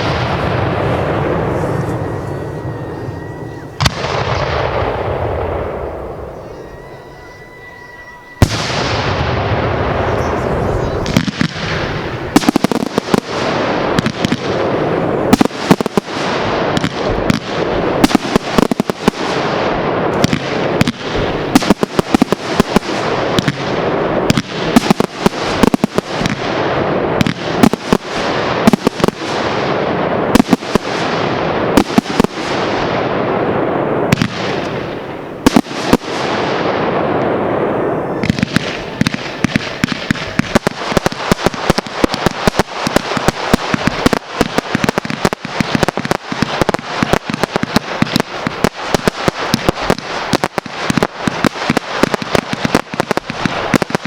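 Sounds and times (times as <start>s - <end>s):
firework bangs: 0.0s - 54.0s
fireworks crackling: 0.0s - 54.0s.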